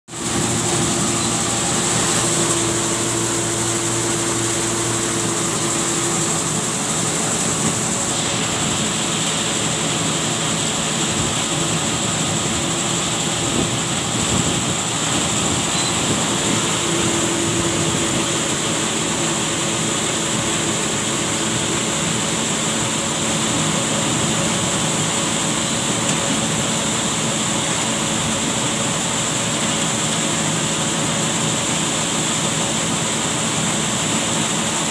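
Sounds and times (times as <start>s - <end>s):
farm machine droning: 0.1s - 34.9s.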